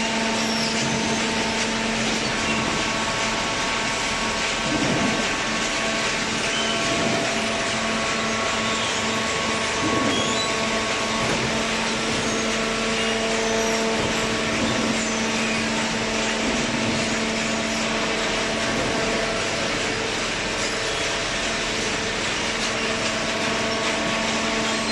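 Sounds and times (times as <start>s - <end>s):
machinery humming: 0.0s - 24.9s.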